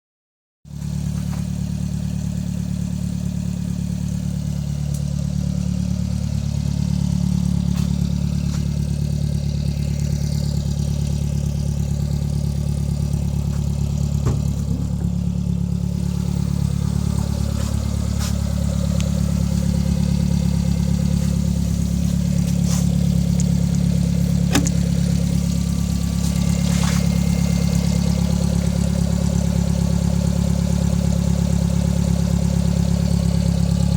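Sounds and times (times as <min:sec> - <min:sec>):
engine idling: 0:00.7 - 0:33.9.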